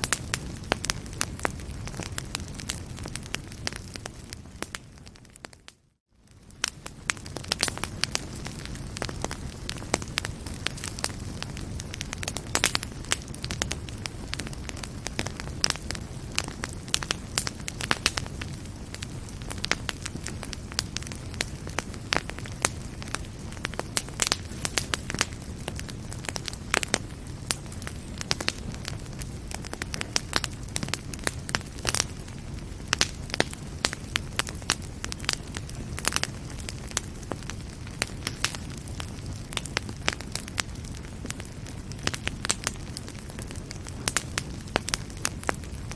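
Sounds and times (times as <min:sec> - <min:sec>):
fire rumbling: 0:00.0 - 0:45.9
logs crackling and popping: 0:00.0 - 0:45.9.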